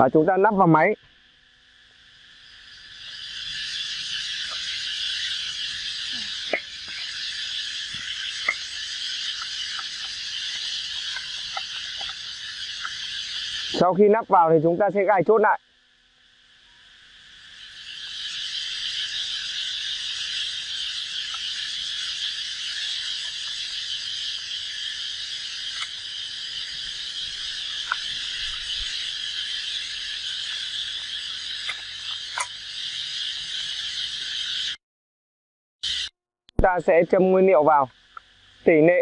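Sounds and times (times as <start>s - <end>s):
insects chorus: 0.0s - 34.8s, 35.8s - 39.0s.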